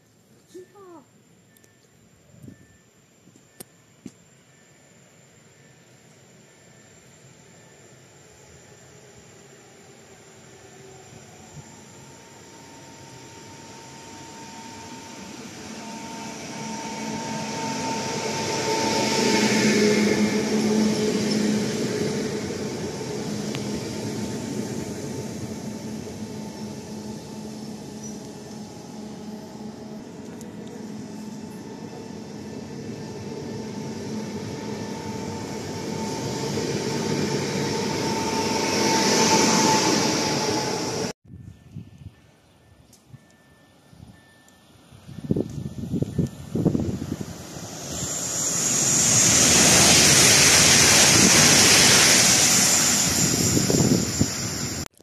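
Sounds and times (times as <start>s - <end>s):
electric train whine: 0.0s - 55.0s
wheels rumbling on rails: 1.3s - 55.0s.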